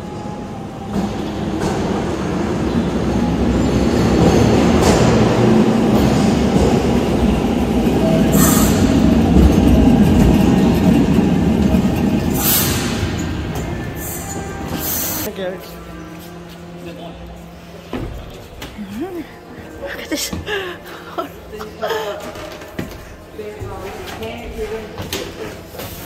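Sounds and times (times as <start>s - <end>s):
tram running on rails: 0.0s - 26.0s.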